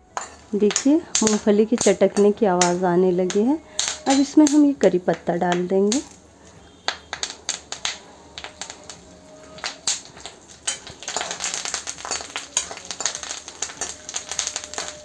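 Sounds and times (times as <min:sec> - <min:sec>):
steel spoon stirring in pan: 0:00.0 - 0:04.8, 0:06.0 - 0:15.0
dense sizzle: 0:00.0 - 0:15.0
peanuts crackling in hot oil: 0:00.0 - 0:15.0.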